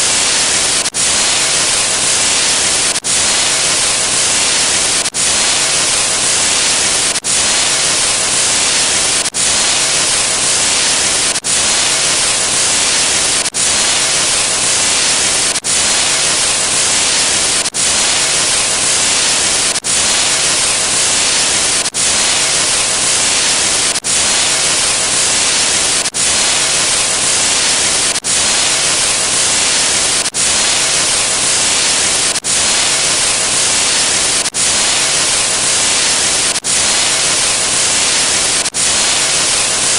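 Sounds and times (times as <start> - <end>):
static white noise hiss: 0.0 - 39.9.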